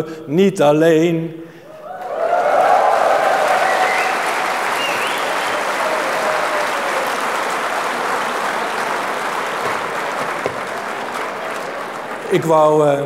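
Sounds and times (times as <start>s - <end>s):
audience applauding: 1.8s - 13.0s.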